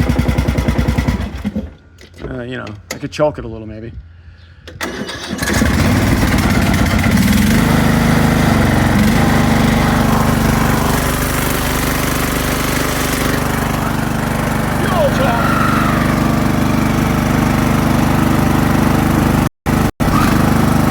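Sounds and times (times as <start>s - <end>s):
mower engine starting and running: 0.0s - 2.2s, 4.7s - 20.9s.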